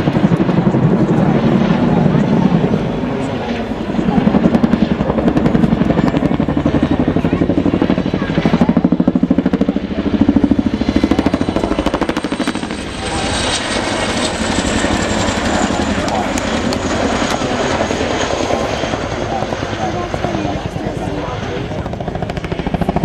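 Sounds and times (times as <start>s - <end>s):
helicopter rotor chop: 0.0s - 23.0s.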